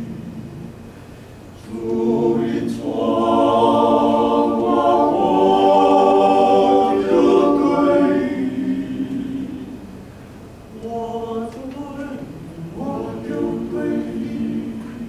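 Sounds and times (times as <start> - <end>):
male choir singing a cappella: 1.6 - 9.9, 10.7 - 15.0.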